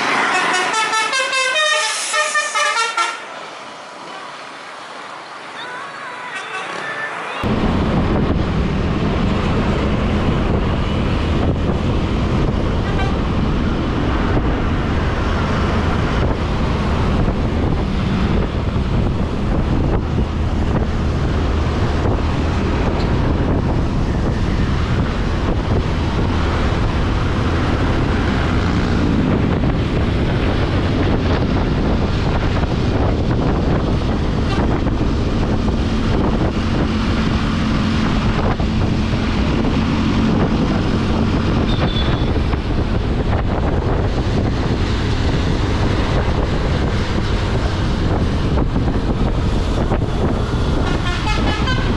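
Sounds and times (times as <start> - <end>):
bus road and engine noise: 0.0 - 51.9
wind buffeting microphone: 7.4 - 51.9.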